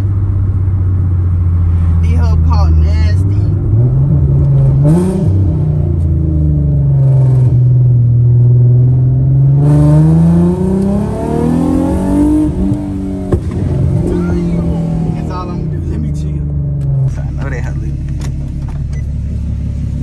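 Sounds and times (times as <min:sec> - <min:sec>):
car engine pulling under throttle: 0:00.0 - 0:20.0.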